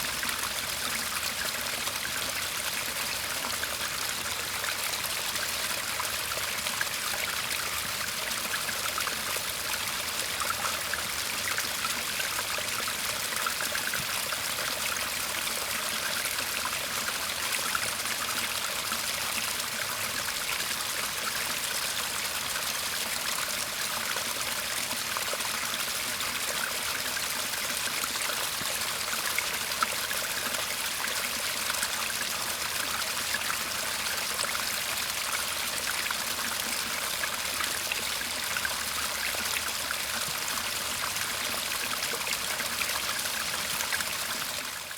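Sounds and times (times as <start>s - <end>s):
stream babbling over stones: 0.0s - 44.9s.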